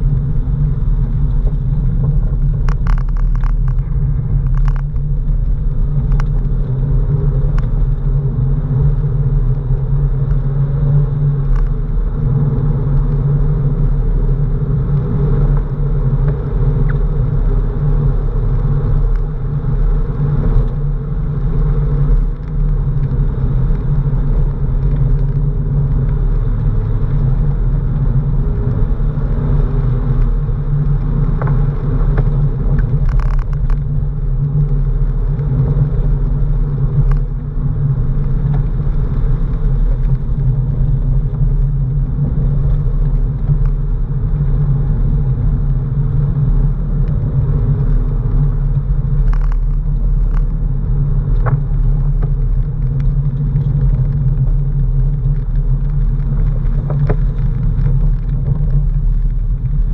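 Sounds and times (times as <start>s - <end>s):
car engine drone from inside: 0.0s - 59.9s
tyres on wet road: 0.0s - 59.9s.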